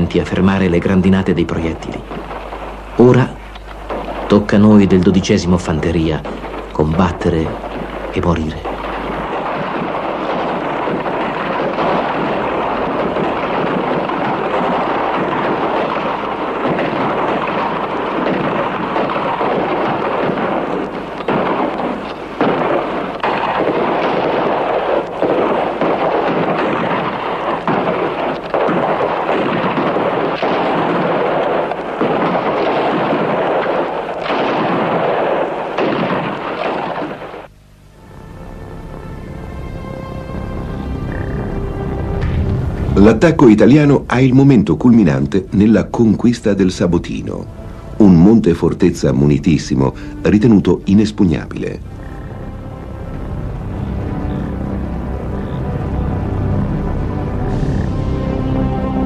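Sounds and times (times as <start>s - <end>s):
gunfire crackle: 0.0s - 59.0s
heavy blasts: 0.0s - 59.0s.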